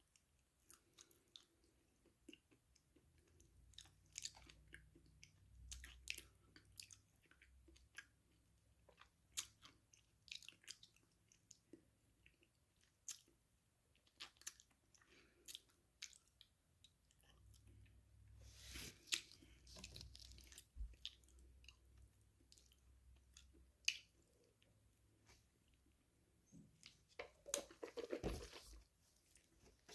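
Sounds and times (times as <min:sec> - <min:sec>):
soft wet chewing: 0:00.0 - 0:29.9.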